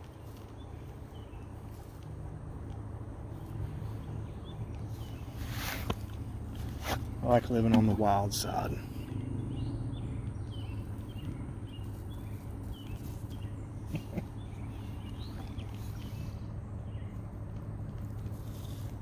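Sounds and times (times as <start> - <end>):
low steady rumble: 0.0 - 19.0
small birds chirping: 0.0 - 19.0.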